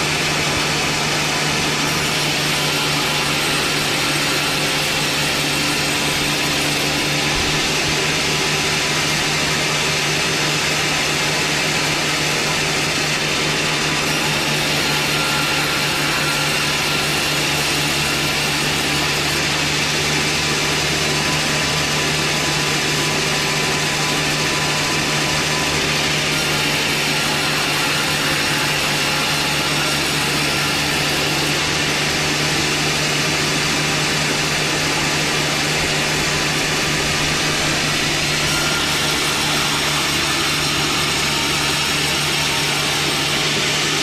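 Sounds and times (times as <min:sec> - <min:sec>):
power saw running: 0:00.0 - 0:44.0.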